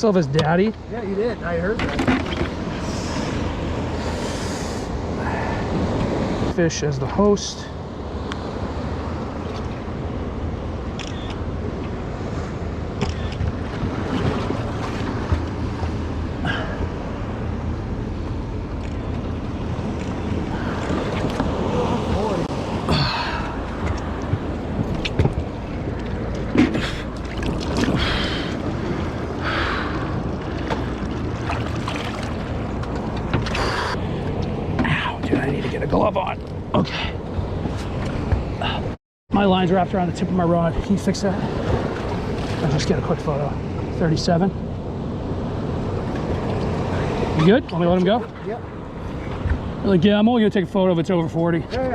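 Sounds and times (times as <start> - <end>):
waves washing around boat: 0.0 - 51.9
wind and water rumble: 0.0 - 51.9.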